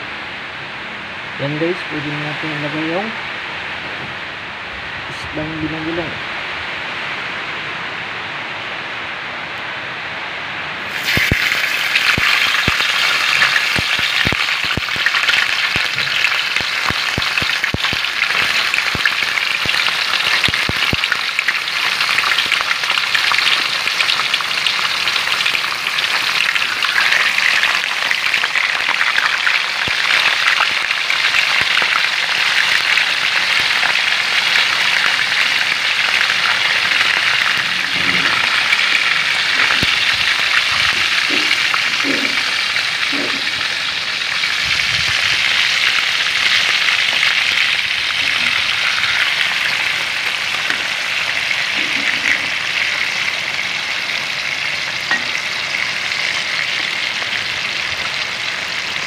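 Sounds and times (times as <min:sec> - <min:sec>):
fish sizzling in hot oil: 0:10.8 - 0:59.0.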